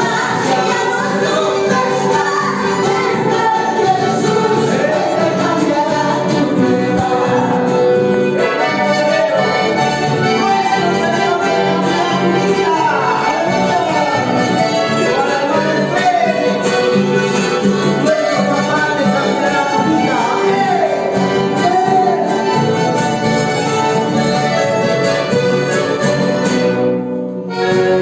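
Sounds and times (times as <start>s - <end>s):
person singing: 0.0s - 23.2s
acoustic guitar: 0.0s - 28.0s
piano accordion: 0.0s - 28.0s.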